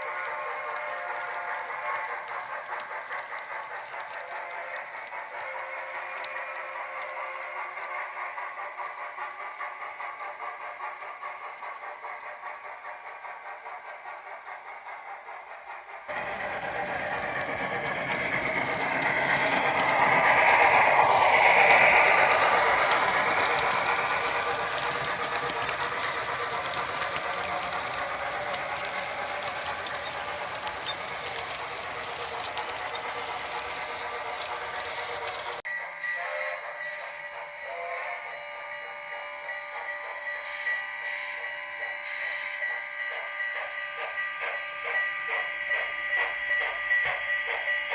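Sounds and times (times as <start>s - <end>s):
model train rattling on track: 0.0s - 47.9s
steam locomotive sound effect: 0.0s - 47.9s.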